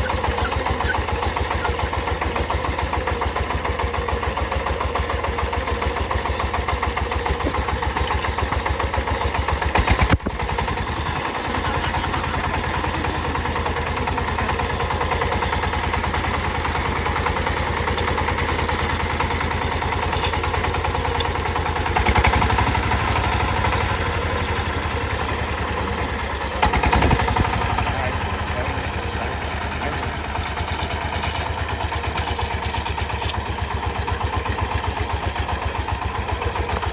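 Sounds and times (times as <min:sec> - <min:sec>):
power tiller diesel chugging: 0:00.0 - 0:36.9.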